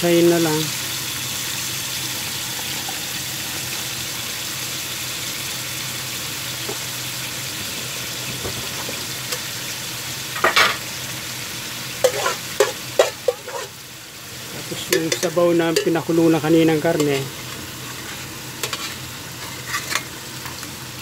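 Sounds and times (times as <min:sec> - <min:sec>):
pork sizzling in a wok: 0:00.0 - 0:21.0.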